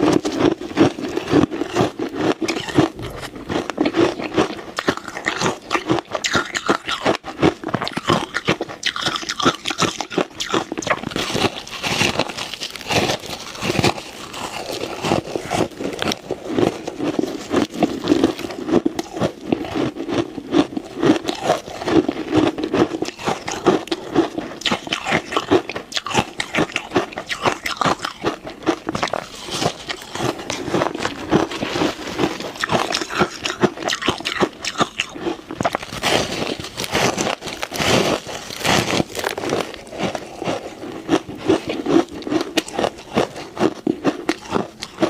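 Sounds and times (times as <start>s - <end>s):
ice being chewed: 0.0s - 45.0s.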